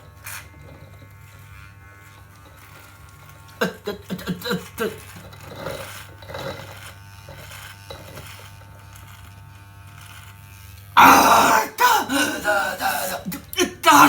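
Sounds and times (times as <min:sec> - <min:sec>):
small electric motor buzzing: 0:00.0 - 0:14.0.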